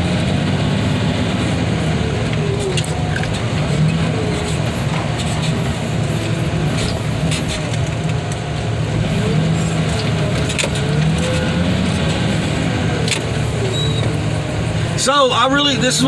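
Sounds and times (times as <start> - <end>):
heavy engine running: 0.0 - 16.0.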